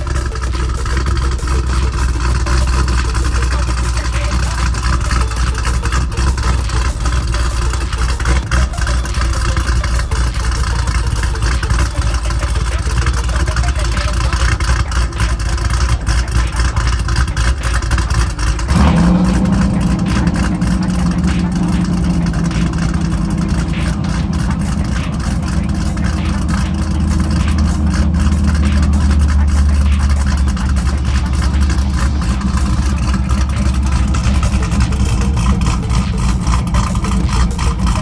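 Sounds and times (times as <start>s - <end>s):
car engine running: 0.0s - 38.0s.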